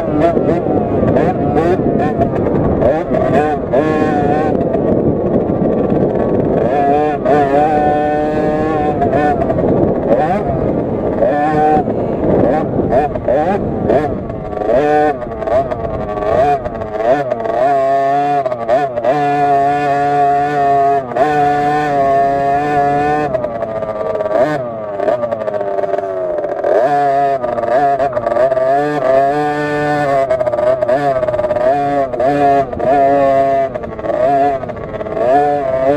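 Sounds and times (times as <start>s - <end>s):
minibike engine revving: 0.0s - 35.9s.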